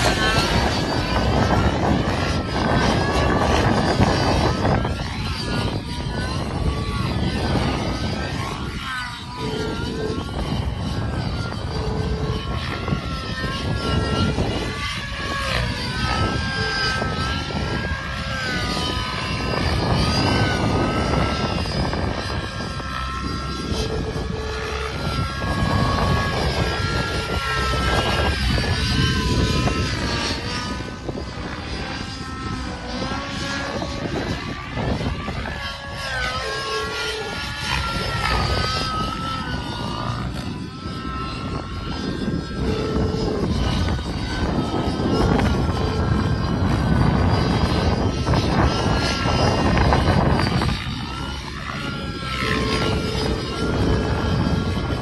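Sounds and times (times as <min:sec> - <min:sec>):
model helicopter engine whine: 0:00.0 - 0:55.0.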